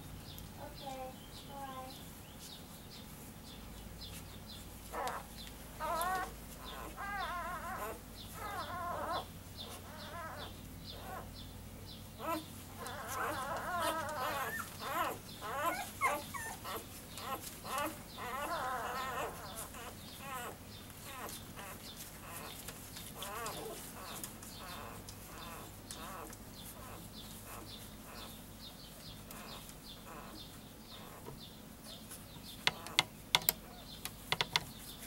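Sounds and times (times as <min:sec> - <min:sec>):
puppies squeaking and whining: 0:02.0 - 0:11.4, 0:12.2 - 0:34.0.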